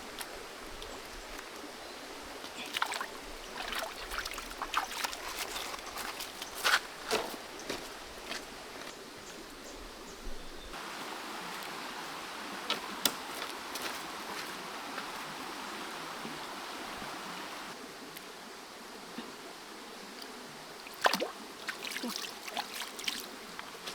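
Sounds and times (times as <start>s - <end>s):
creek water running: 0.0s - 23.9s.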